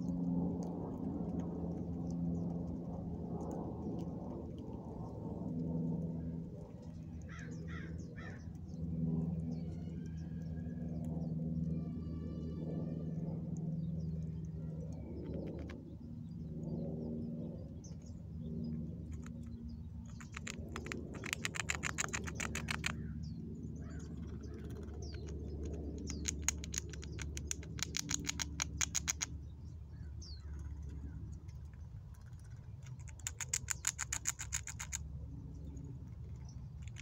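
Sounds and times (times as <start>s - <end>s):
squirrel gnawing nut shell: 0.0s - 11.0s, 13.4s - 16.2s, 18.8s - 37.0s.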